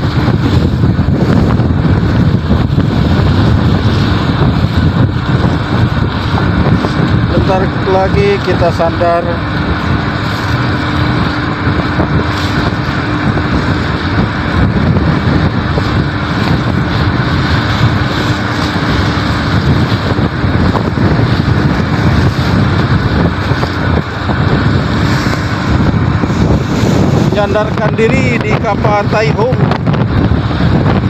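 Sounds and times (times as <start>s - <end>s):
steady hum: 0.0s - 31.0s
wind buffeting microphone: 0.0s - 31.0s.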